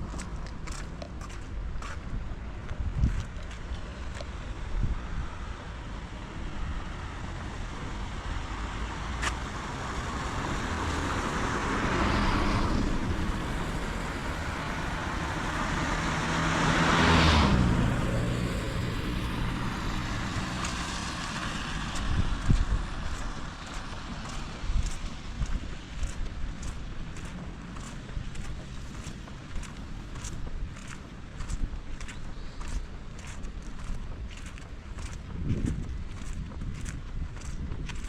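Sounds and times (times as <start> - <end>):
car engine hum: 0.0 - 38.0
cars passing on wet road: 0.0 - 38.0.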